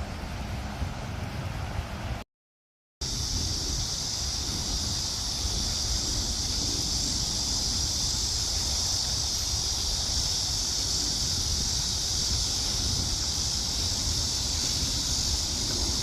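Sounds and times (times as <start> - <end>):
wind rumbling on microphone: 0.0 - 2.2, 3.0 - 16.0
cicada chorus buzzing: 3.0 - 16.0.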